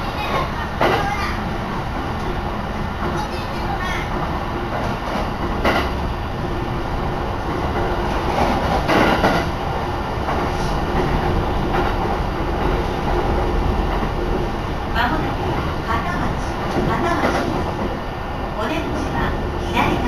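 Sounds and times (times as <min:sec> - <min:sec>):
train rumble and wheel noise: 0:00.0 - 0:20.0
train rushing: 0:00.0 - 0:20.0.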